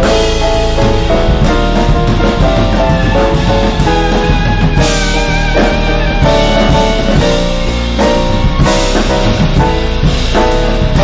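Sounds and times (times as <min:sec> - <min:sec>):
jazz band playing: 0:00.0 - 0:11.0.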